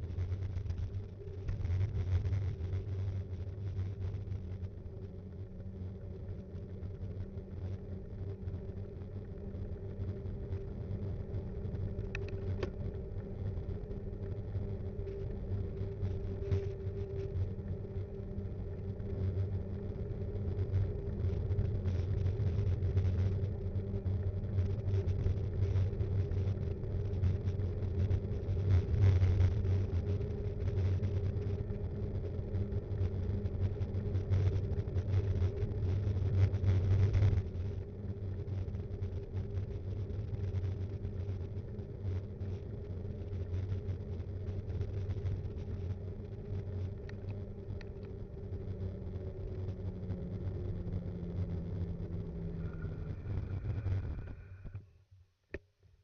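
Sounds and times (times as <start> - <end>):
bike rolling rumble and hum: 0.0 - 54.9.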